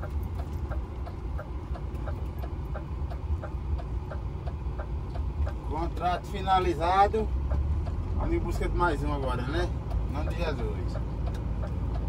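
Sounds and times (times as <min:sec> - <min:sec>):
indicator relay ticking: 0:00.0 - 0:12.0
truck engine rumbling: 0:00.0 - 0:12.0.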